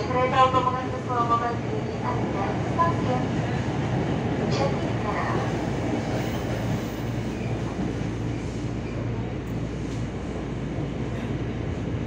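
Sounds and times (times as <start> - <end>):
train wheels on rail: 0.8 - 12.0.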